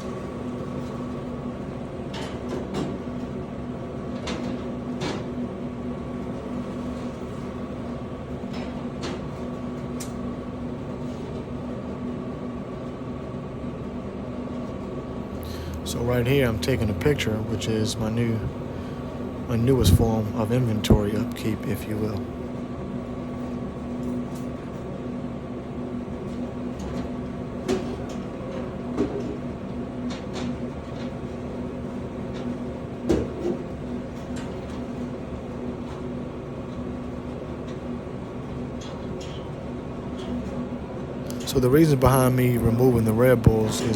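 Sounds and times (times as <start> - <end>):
vending machine cooling hum: 0.0 - 43.9.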